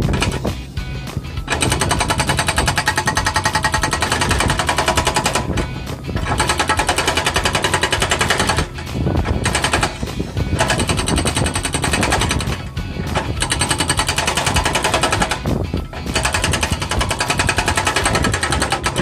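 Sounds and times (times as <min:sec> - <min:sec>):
hydraulic breaker hammering concrete: 0:00.0 - 0:00.7, 0:01.3 - 0:19.0.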